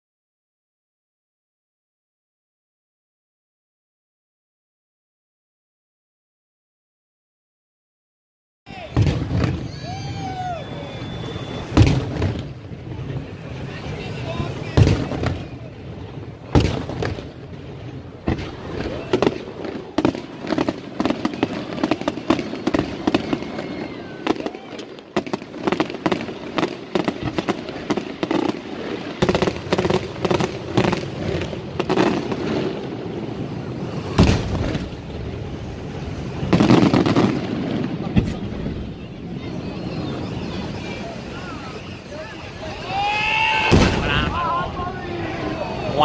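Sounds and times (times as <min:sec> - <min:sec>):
firework booms: 0:08.7 - 0:46.0.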